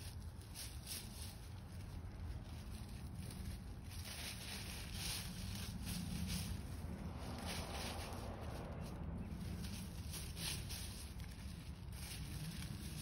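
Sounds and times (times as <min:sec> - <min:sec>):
low steady rumble: 0:00.0 - 0:13.0
rustling of dry leaves: 0:00.0 - 0:13.0.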